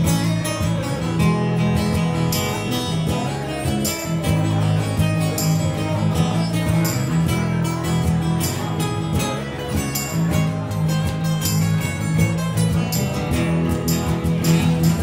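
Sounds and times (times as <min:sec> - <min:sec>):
bass line: 0:00.0 - 0:15.0
foot-played percussion: 0:00.0 - 0:15.0
strummed guitars: 0:00.0 - 0:15.0.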